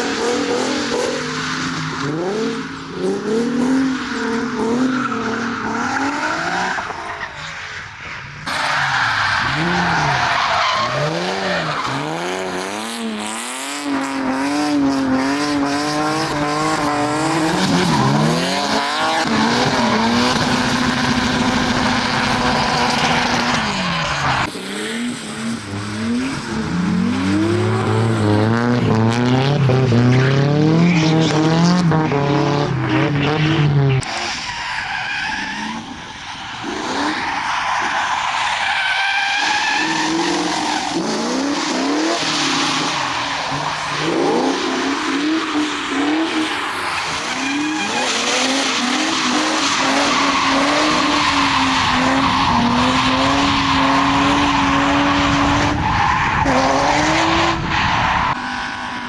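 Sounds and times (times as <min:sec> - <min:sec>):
car engines revving hard: 0:00.0 - 0:07.3, 0:08.2 - 0:34.4, 0:35.2 - 0:59.0.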